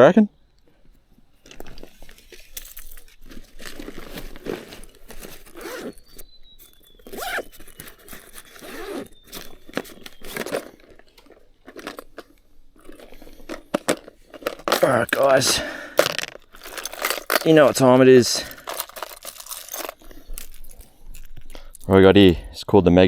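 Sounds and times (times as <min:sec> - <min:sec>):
crunching and crinkling: 0:00.5 - 0:22.4.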